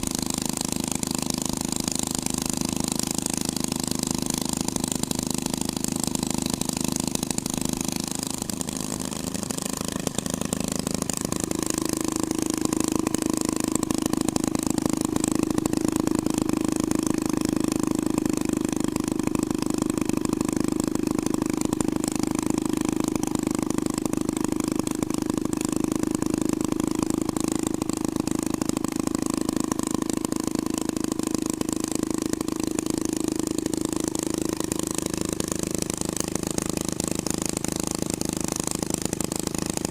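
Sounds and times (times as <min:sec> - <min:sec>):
hot rod engine running: 0:00.0 - 0:39.9.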